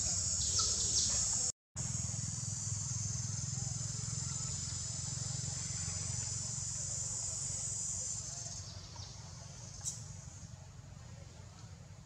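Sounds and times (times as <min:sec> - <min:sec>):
insect chorus: 0:00.0 - 0:10.8.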